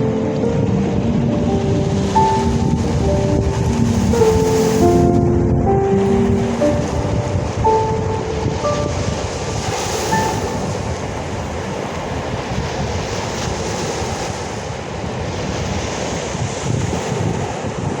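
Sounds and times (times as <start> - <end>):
sea surf rushing: 0.0 - 18.0
wind rumble on microphone: 0.0 - 18.0.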